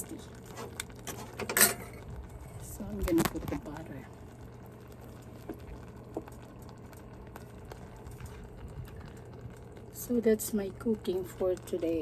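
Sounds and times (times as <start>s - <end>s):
low steady hum: 0.0s - 12.0s
sauce bubbling in a pan: 0.0s - 12.0s.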